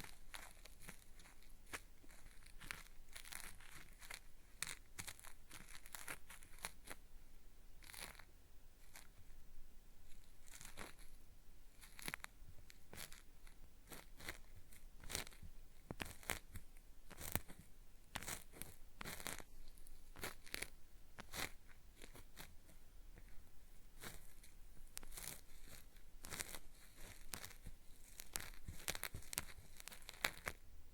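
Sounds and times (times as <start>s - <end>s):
cotton swab scraping microphone: 0.0s - 7.0s, 7.8s - 9.4s, 10.0s - 30.6s.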